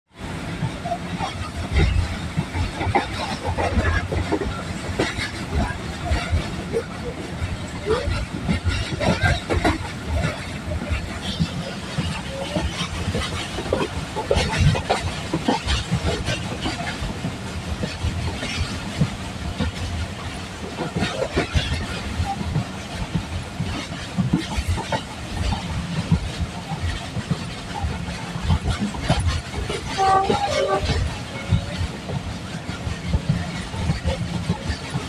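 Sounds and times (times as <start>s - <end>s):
train rumbling on track: 0.1s - 35.0s
wheels clattering: 0.2s - 35.0s.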